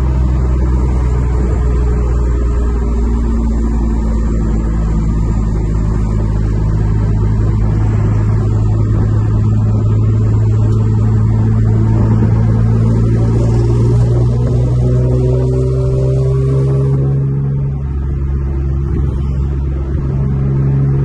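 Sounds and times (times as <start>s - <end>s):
car engine drone inside cabin: 0.0s - 21.0s.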